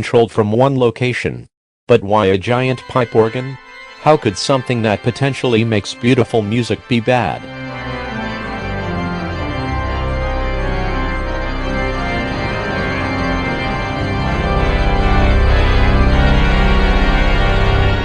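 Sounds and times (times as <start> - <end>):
deep organ bass: 1.9 - 18.0
organ chords: 1.9 - 18.0.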